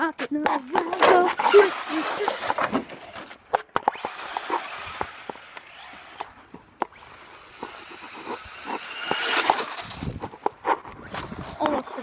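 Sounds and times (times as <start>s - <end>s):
electric motor whine: 1.3s - 11.6s.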